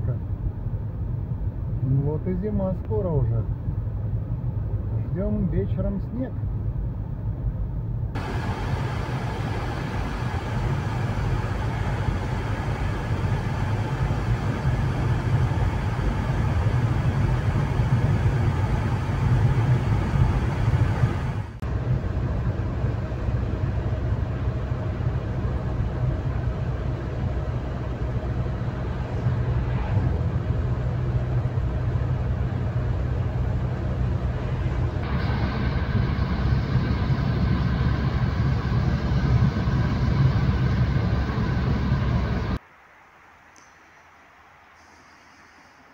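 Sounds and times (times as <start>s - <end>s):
car engine and tyre drone: 6.8s - 45.9s.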